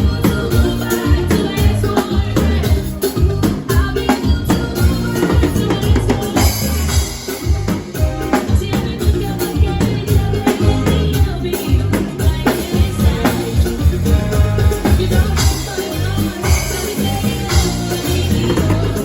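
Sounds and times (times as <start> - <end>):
band playing: 0.0 - 19.0
bass guitar: 0.0 - 19.0
drum kit beat: 0.0 - 19.0.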